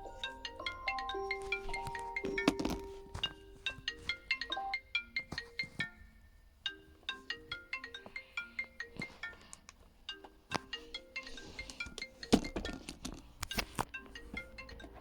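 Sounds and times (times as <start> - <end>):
mobile phone ringtone melody: 0.0 - 9.4, 10.1 - 12.8, 14.0 - 15.0.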